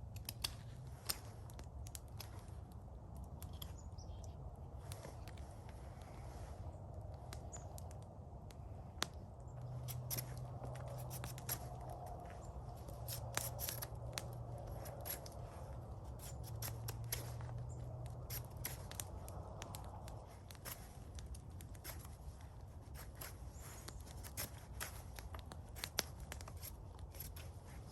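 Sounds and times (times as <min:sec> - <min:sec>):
clicks and snips of cutting: 0:00.0 - 0:05.4, 0:07.0 - 0:27.9.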